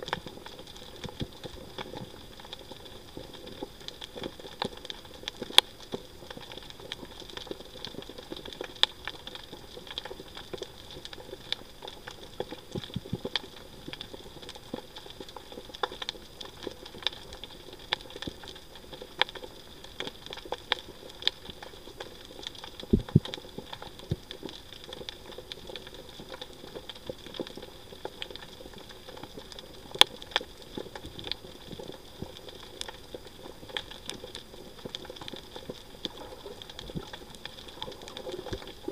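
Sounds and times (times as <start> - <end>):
steady underwater hiss: 0.0 - 38.9
underwater clicks and crackles: 0.0 - 38.9.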